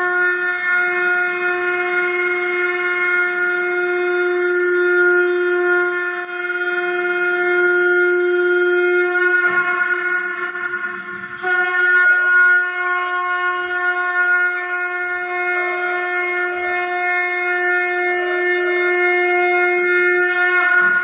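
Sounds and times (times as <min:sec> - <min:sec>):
conch shell blown: 0:00.0 - 0:21.0.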